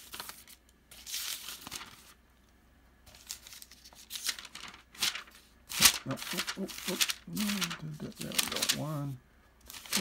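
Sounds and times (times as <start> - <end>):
book pages rustling: 0.0 - 2.2, 3.1 - 10.0.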